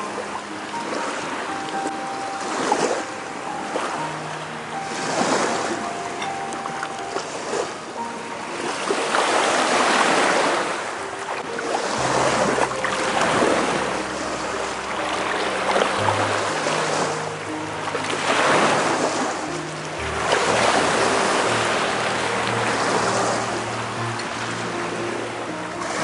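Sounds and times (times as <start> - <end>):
sea surf washing in: 0.0 - 26.0
soft background music: 0.0 - 26.0.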